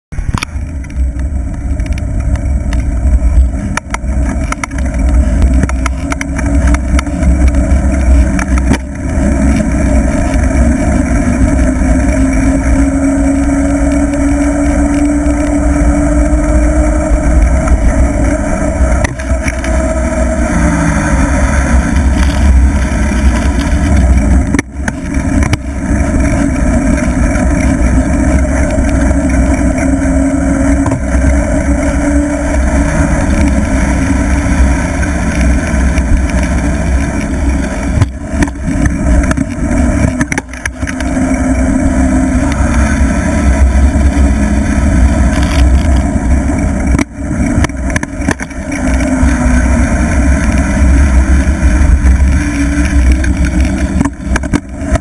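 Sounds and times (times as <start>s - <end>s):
road noise: 0.0s - 55.0s
wind buffeting microphone: 0.1s - 55.0s.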